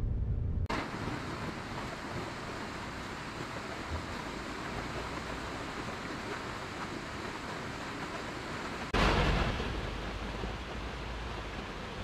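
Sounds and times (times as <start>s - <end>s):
stream water rushing: 0.7s - 12.0s.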